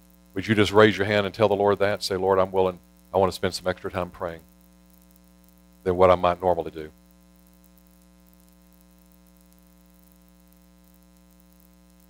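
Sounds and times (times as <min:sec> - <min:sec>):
faint electrical mains hum: 0:00.0 - 0:12.0
light hiss: 0:00.0 - 0:12.0.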